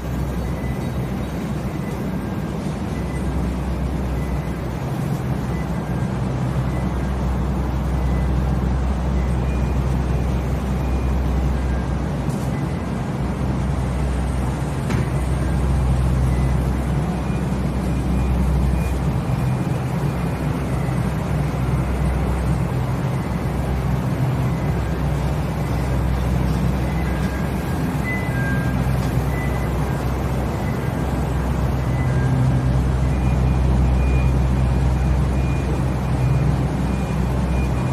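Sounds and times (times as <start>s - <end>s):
refrigeration machinery humming: 0.0s - 37.9s.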